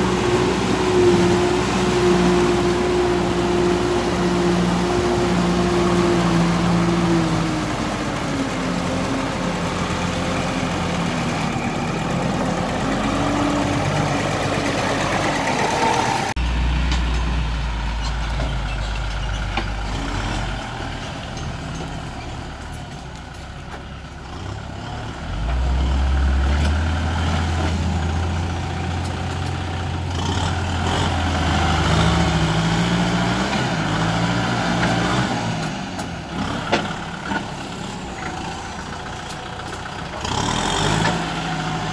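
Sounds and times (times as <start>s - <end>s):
diesel tractor engine droning: 0.0s - 41.9s
tractor churning through mud: 0.0s - 41.9s.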